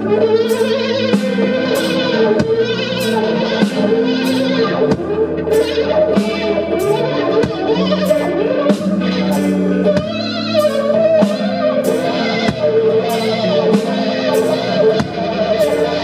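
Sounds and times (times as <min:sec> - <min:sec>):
bass and drums: 0:00.0 - 0:16.0
cymbal strikes: 0:00.0 - 0:16.0
electric guitar lead line: 0:00.0 - 0:16.0.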